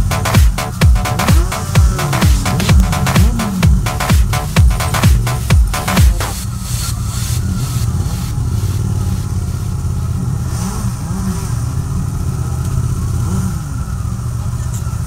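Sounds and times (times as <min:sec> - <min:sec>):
motorcycle revving: 0:00.0 - 0:14.5
motorcycle engines rumbling: 0:00.0 - 0:15.0.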